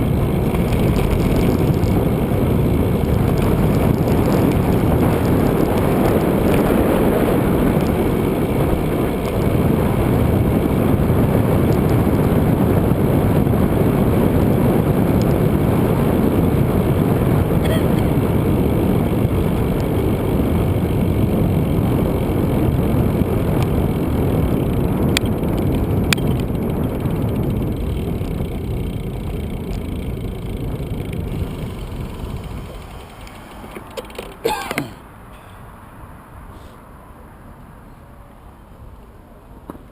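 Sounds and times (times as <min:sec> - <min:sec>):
wind rushing: 0:00.0 - 0:29.2, 0:29.8 - 0:33.9
bicycle road noise: 0:00.0 - 0:39.9.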